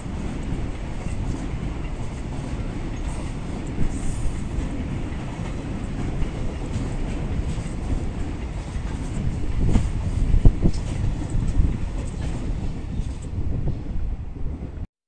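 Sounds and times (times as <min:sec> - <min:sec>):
wheels clacking over rail joints: 0:00.0 - 0:13.6
freight train rumbling past: 0:00.0 - 0:14.9.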